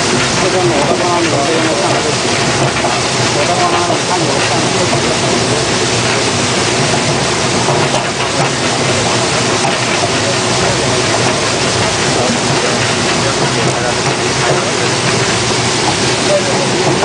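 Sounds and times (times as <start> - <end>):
machine running: 0.0 - 17.0
spraying water rushing: 0.0 - 17.0.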